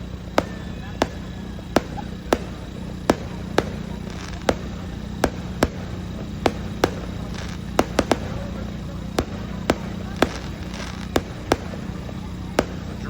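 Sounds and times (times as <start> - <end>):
fireworks bangs: 0.0 - 13.0
low background noise: 0.0 - 13.0.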